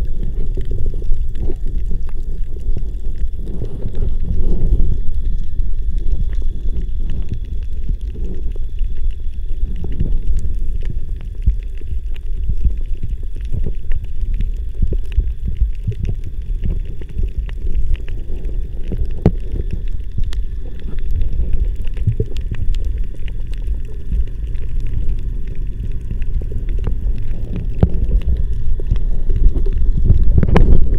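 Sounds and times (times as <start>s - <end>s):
muffled underwater rumble: 0.0s - 30.9s
sharp underwater clicks: 0.0s - 30.9s.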